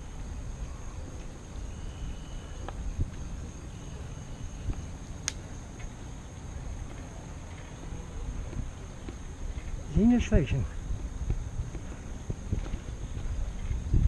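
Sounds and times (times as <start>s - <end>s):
high insect drone: 0.0s - 14.0s
wind and road noise: 0.0s - 14.0s.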